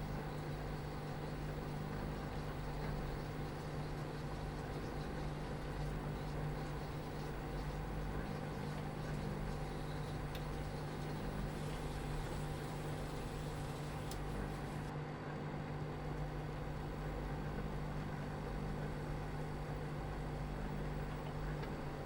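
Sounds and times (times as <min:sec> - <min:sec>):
appliance humming: 0:00.0 - 0:22.0.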